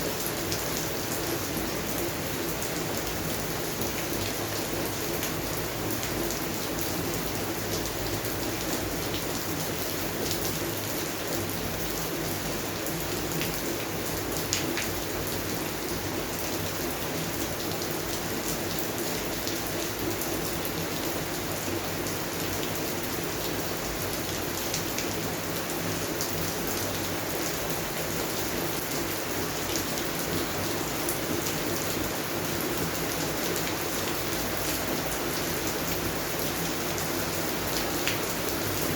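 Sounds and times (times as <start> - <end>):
rain falling on plants: 0.0 - 38.9.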